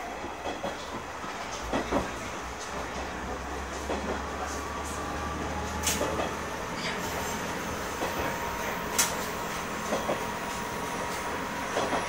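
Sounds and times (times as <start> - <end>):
railcar running noise: 0.0 - 12.0.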